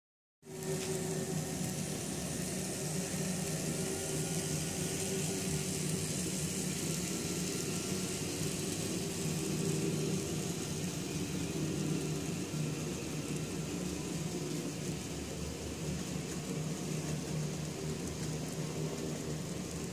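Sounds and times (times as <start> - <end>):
model train running: 0.4 - 19.9.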